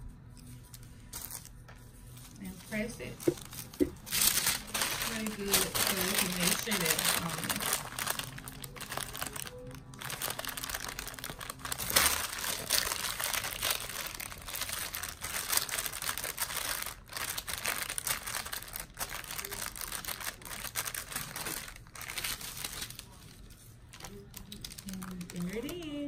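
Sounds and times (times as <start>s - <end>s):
paper crinkling and rustling: 0.3s - 26.0s.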